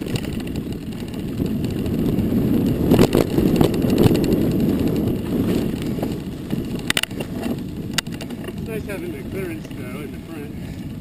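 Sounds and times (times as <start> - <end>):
bike rattling over bumps: 0.0 - 11.0
wind buffeting microphone: 0.0 - 11.0.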